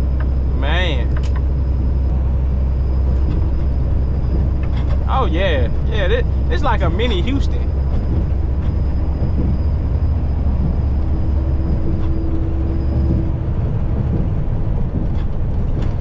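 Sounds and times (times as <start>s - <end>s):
faint hum: 0.0s - 15.2s
truck engine and road rumble: 0.0s - 16.0s.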